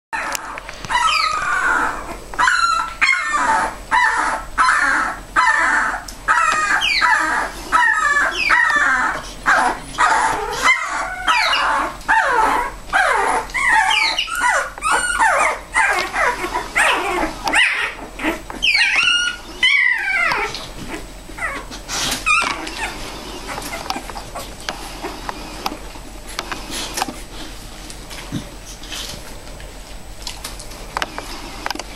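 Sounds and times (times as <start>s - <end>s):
puppies whining: 0.2s - 29.4s.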